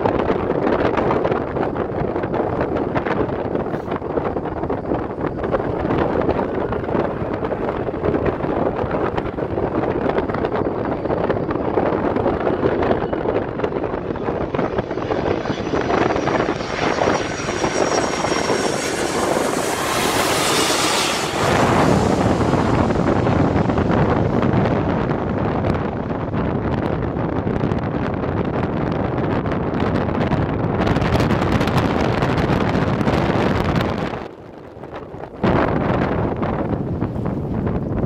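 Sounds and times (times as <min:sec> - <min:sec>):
jet engines rushing overhead: 0:00.0 - 0:38.0
wind buffeting microphone: 0:00.0 - 0:38.0.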